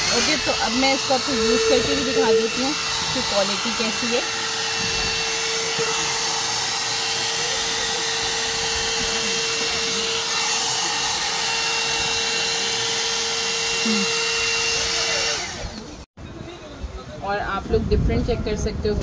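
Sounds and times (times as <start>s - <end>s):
hair dryer air rush and motor whine: 0.0s - 16.1s.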